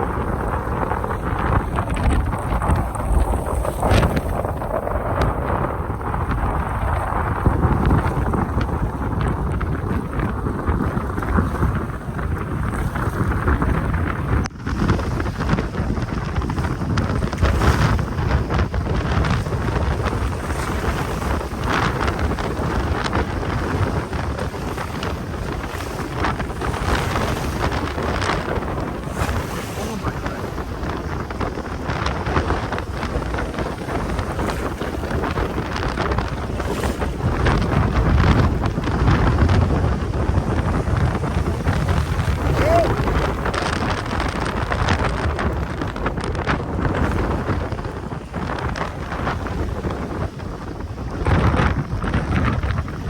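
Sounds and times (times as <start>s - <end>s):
strong wind buffeting microphone: 0.0s - 53.0s.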